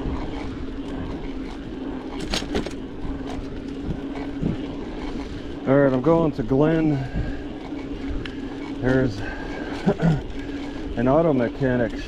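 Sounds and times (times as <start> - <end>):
bike tyre road noise: 0.0 - 12.0
faint hum: 0.0 - 12.0.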